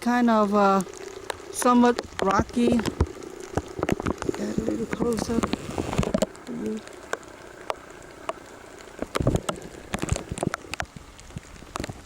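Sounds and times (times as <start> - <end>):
light rain falling: 0.0 - 12.0.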